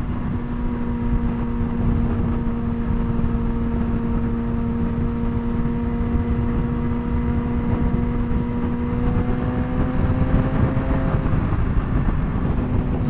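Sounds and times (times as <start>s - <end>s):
motorcycle engine droning: 0.0s - 13.0s
wind rush on microphone: 0.0s - 13.0s.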